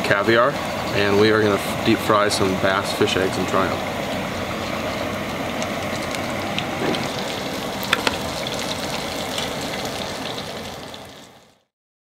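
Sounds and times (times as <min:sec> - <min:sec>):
oil sizzling in deep fryer: 0:00.0 - 0:11.7
oil popping: 0:00.6 - 0:11.5.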